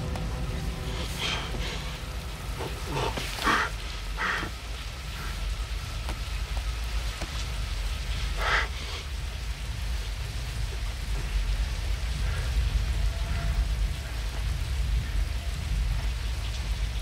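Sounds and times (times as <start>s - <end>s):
deep low rumble: 0.0s - 17.0s
heavy rain pouring: 0.0s - 17.0s.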